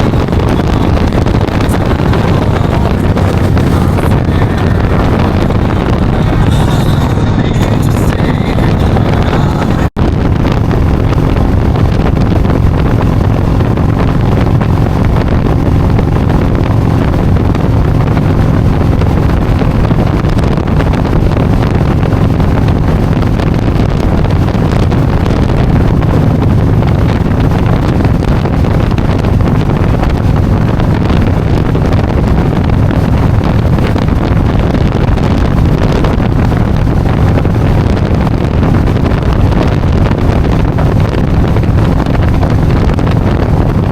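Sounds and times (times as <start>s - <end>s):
motorcycle engine running: 0.0s - 43.9s
wind buffeting microphone: 0.0s - 43.9s.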